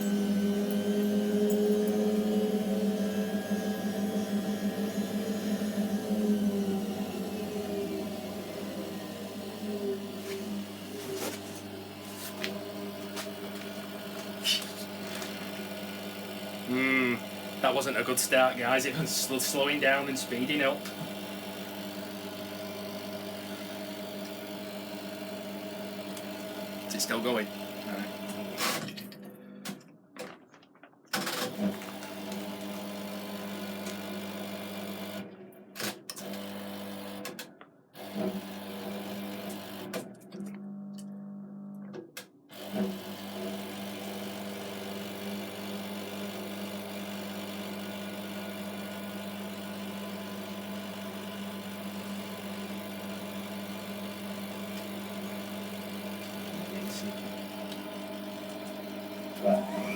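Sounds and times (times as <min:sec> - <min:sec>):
washing machine motor humming: 0:00.0 - 0:29.9, 0:31.1 - 0:37.4, 0:38.0 - 0:59.9.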